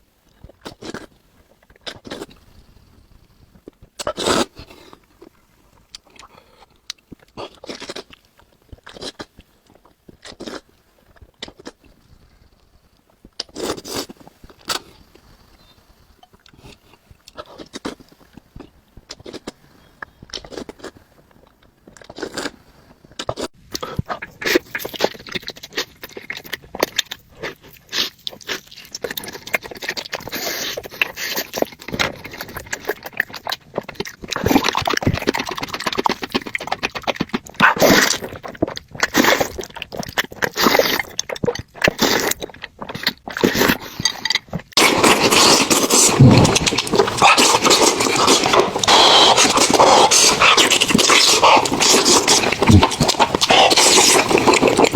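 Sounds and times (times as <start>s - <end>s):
crunching and chewing food: 0.0s - 54.9s.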